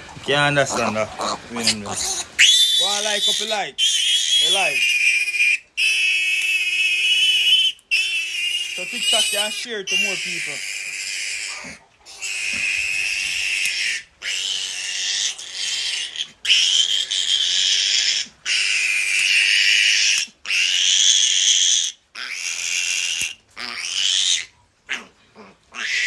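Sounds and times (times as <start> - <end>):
piglet squealing: 0.6 - 26.0.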